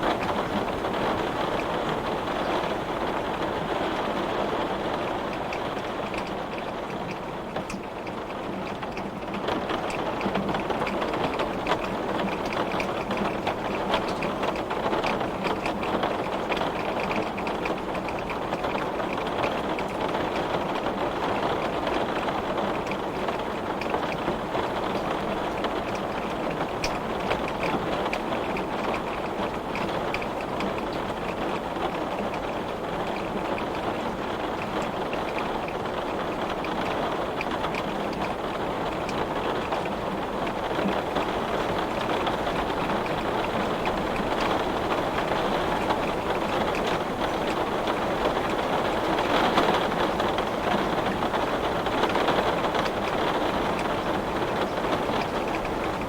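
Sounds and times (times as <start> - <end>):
heavy rain on a glass window: 0.0 - 56.0.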